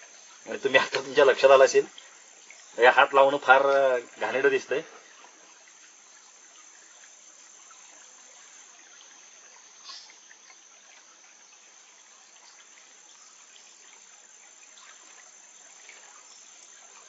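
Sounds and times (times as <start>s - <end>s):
high-pitched insect drone: 0.0s - 17.0s
stream trickling over stones: 0.0s - 17.0s.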